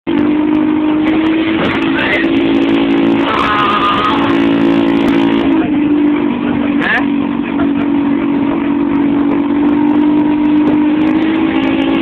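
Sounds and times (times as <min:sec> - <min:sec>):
scooter engine running: 0:00.1 - 0:12.0.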